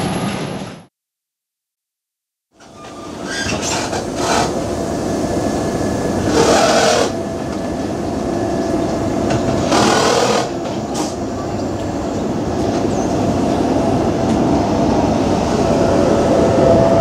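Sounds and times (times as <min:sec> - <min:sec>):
train wheels rumbling on rails: 0:02.6 - 0:17.0.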